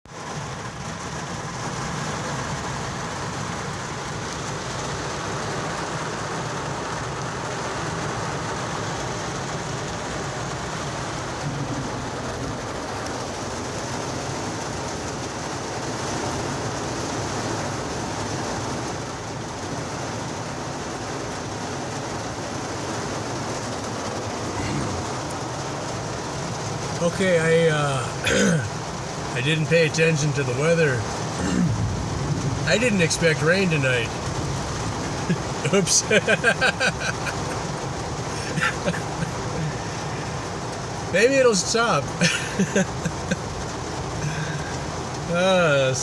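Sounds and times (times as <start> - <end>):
rain on a vehicle roof: 0.0 - 46.0.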